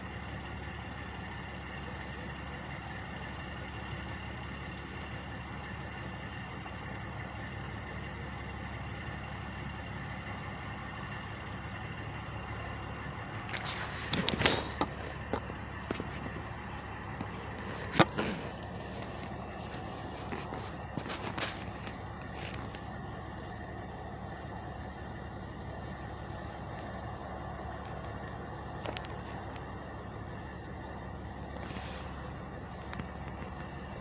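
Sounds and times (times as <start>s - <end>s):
truck engines idling: 0.0s - 34.0s.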